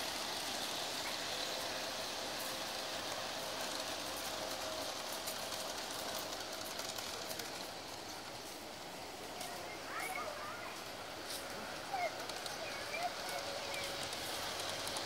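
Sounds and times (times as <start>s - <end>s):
faint thin motor whine: 0.0s - 15.0s
model train rolling hiss: 0.0s - 15.0s.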